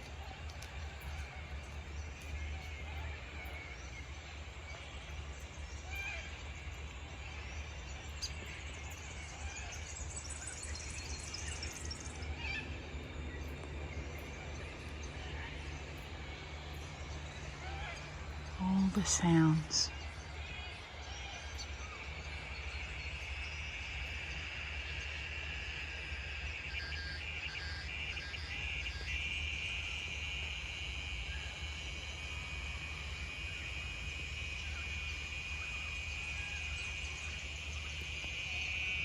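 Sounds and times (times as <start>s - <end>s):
insects chirring: 0.0s - 39.0s
pulsed insect calls: 0.0s - 39.0s.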